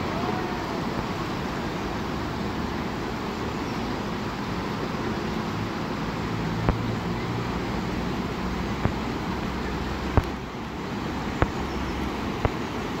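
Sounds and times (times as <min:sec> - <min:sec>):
low hum of road traffic: 0:00.0 - 0:13.0
river whitewater rushing: 0:00.0 - 0:13.0.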